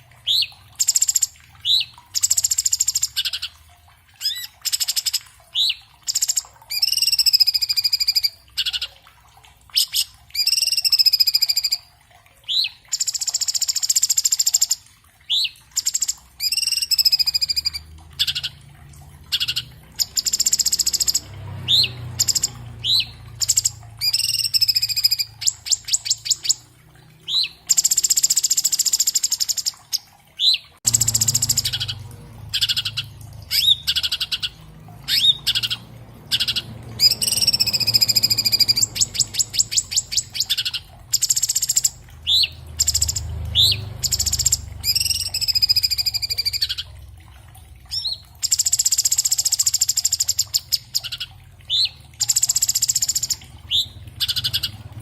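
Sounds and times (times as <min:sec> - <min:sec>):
bird singing whistles and trills: 0:00.2 - 0:03.5, 0:04.2 - 0:08.9, 0:09.7 - 0:11.8, 0:12.5 - 0:18.6, 0:19.3 - 0:26.6, 0:27.3 - 0:46.9, 0:47.9 - 0:54.8.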